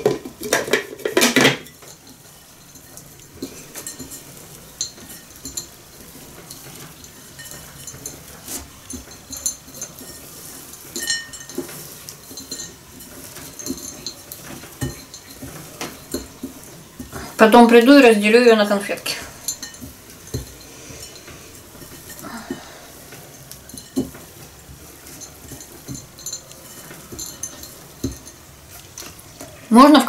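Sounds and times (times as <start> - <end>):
metal spoon scraping ceramic bowl: 0.4 - 17.1, 19.2 - 29.6.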